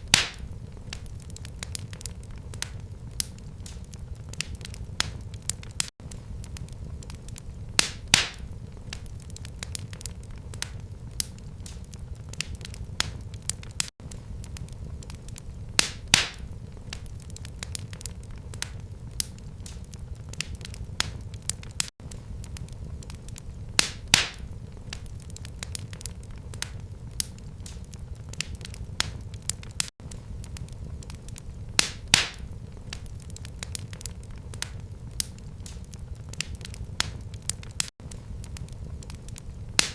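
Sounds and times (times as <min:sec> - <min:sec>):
fire crackling in fireplace: 0:00.0 - 0:39.9
loud fire pops: 0:00.0 - 0:39.9.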